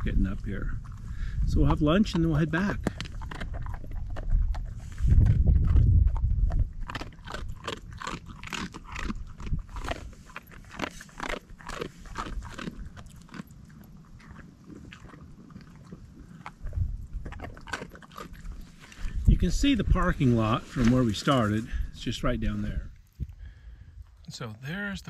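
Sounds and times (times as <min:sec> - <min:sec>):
dog crunching dry treats: 0:00.8 - 0:21.6.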